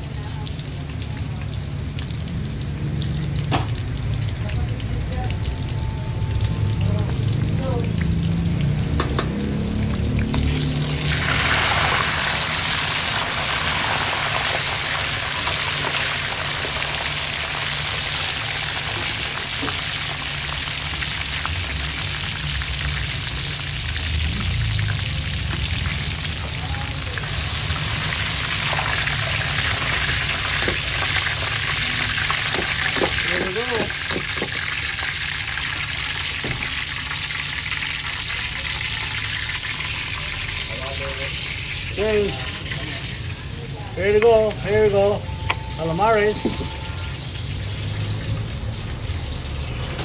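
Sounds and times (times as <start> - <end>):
oil sizzling and bubbling: 0.0 - 50.0.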